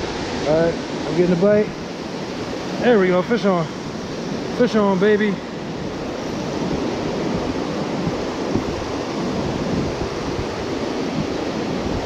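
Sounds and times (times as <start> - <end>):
water rushing from spillway: 0.0 - 12.0.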